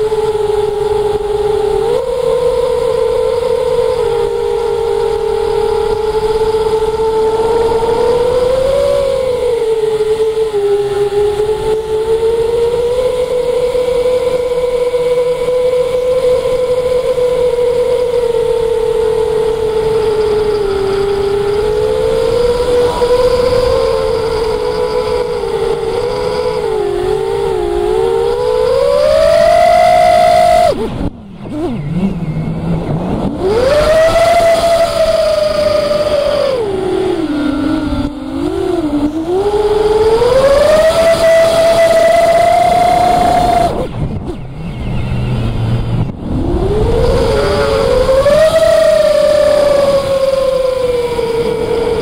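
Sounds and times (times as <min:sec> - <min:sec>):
model aircraft motor whining: 0:00.0 - 0:52.0.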